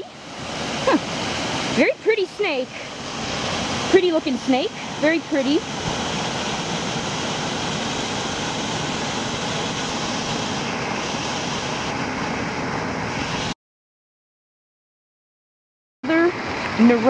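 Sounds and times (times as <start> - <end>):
river water rushing: 0.0 - 13.5, 16.1 - 17.0.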